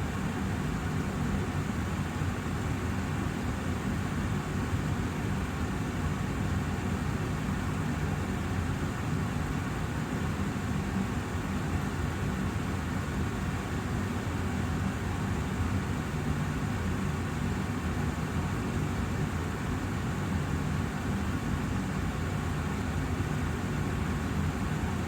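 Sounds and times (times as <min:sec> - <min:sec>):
air purifier fan running: 0:00.0 - 0:25.0.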